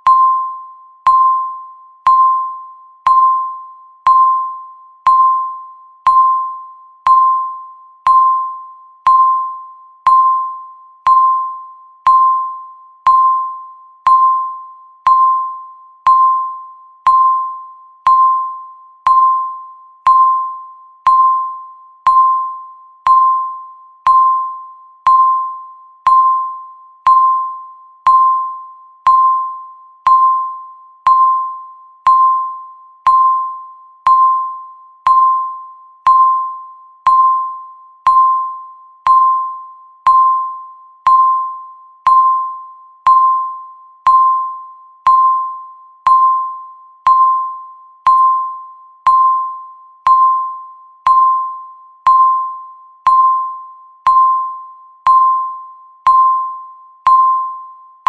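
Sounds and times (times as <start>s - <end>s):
electronic timer beep-ticks: 0.0s - 58.0s.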